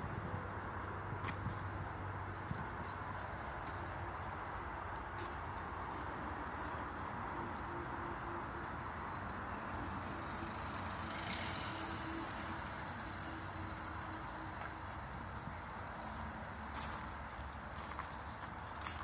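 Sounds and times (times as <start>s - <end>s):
distant road traffic: 0.0s - 19.0s.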